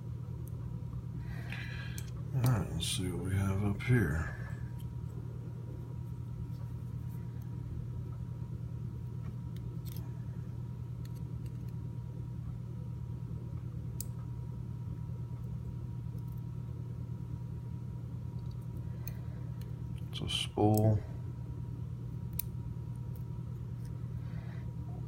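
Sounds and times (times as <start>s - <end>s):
faint constant whine: 0.0s - 25.0s
low electrical hum: 0.0s - 25.0s.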